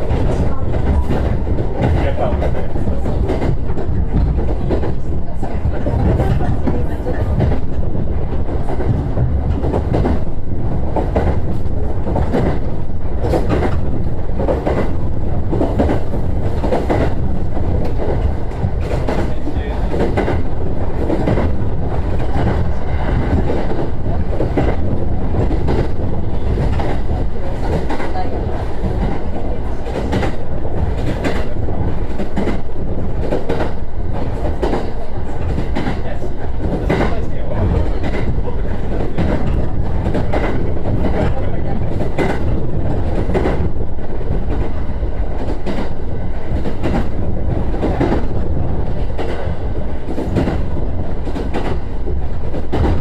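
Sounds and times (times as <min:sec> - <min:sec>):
electric train rumbling: 0:00.0 - 0:53.0
wheel clacks over rail joints: 0:00.0 - 0:53.0.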